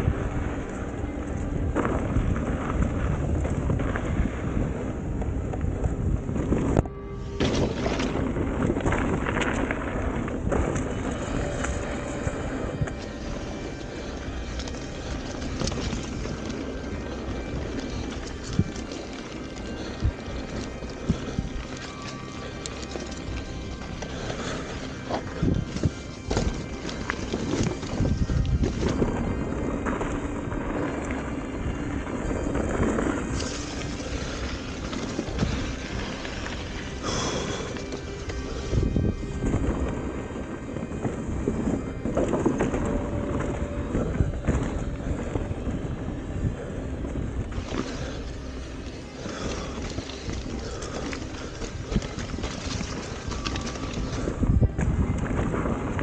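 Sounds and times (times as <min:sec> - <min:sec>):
bike tyre rumble on dirt: 0:00.0 - 0:56.0
music: 0:00.0 - 0:56.0
wind on microphone: 0:00.0 - 0:56.0.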